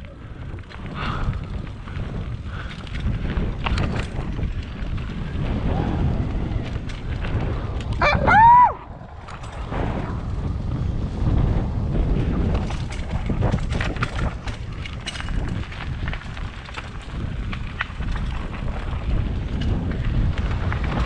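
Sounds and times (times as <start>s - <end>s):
bike rattles and clicks: 0.0s - 21.0s
tyres rumbling over dirt: 0.0s - 21.0s
wind buffeting microphone: 0.0s - 21.0s.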